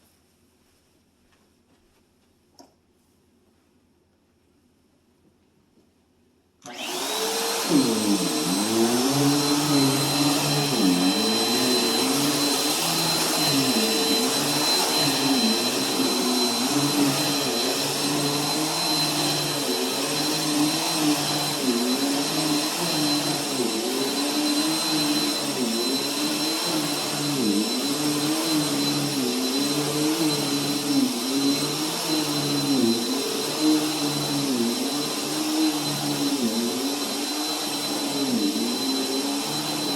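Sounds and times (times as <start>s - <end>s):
vacuum cleaner switched on: 6.6s - 39.9s
vacuum cleaner whine on carpet: 6.6s - 39.9s.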